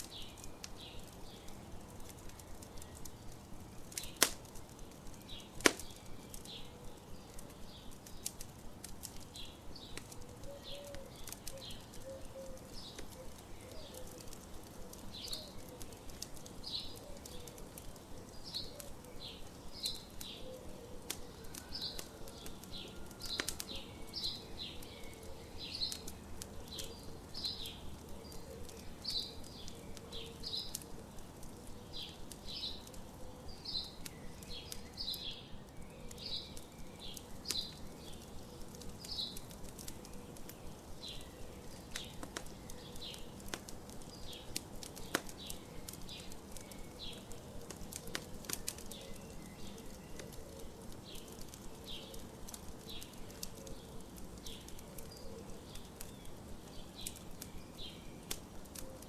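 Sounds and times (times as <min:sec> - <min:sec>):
birds chirping: 0:00.0 - 0:59.0
campfire crackling: 0:00.0 - 0:59.0.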